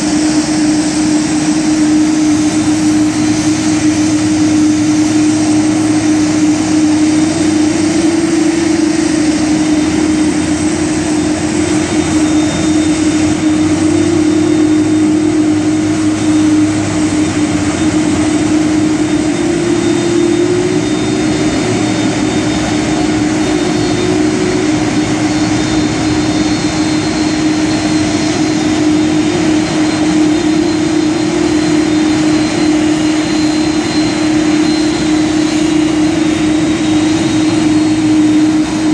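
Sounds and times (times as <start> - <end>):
jet engines idling roar: 0.0 - 38.9.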